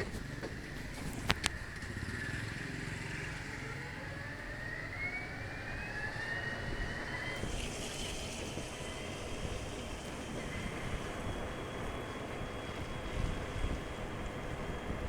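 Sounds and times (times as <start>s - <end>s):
vehicle engine and road rumble: 0.0s - 15.0s
whine rising in pitch: 0.7s - 15.0s.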